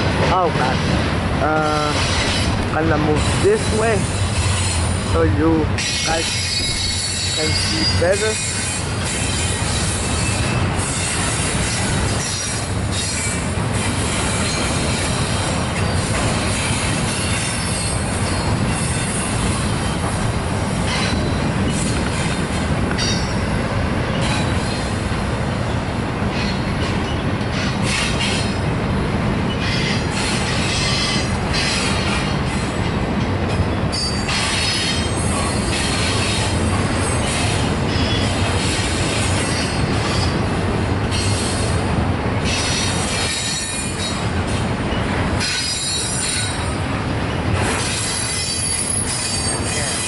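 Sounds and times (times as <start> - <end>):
freight train wheels rumbling: 0.0 - 50.0.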